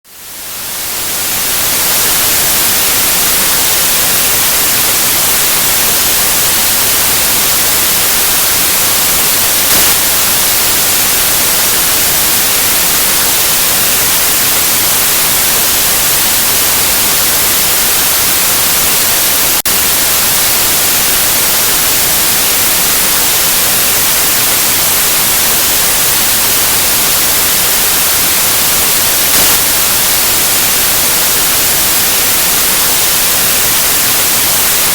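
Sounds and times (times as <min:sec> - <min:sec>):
white noise hiss: 0:00.1 - 0:34.9.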